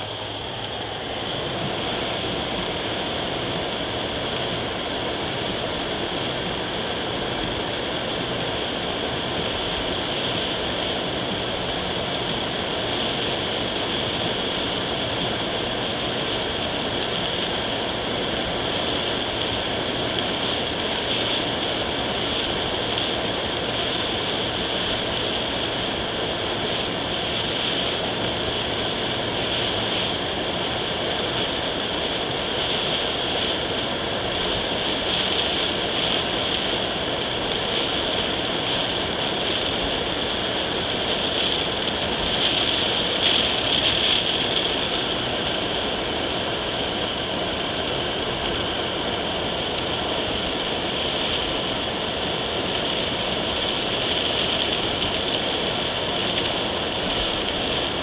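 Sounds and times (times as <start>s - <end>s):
heavy rain on a car: 0.0s - 58.0s
tyres on wet road: 0.0s - 58.0s.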